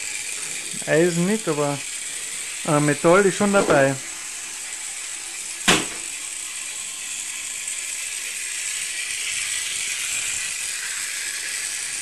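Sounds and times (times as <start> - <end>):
model train whirring on track: 0.0 - 12.0.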